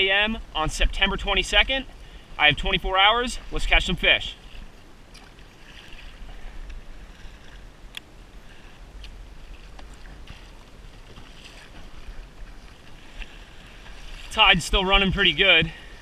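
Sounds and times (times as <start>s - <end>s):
water around kayak: 0.0s - 16.0s.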